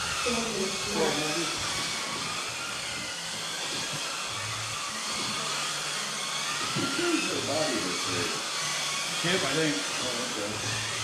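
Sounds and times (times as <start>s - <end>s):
electric rc car motors whining: 0.0s - 11.0s.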